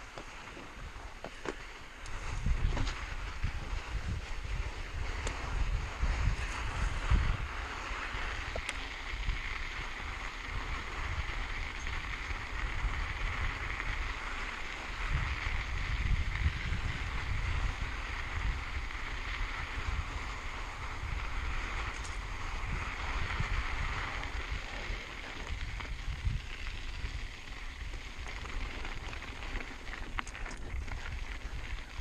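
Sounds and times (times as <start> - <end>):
bike tyres hissing on sand: 0.0 - 32.0
wind buffeting microphone: 0.0 - 32.0.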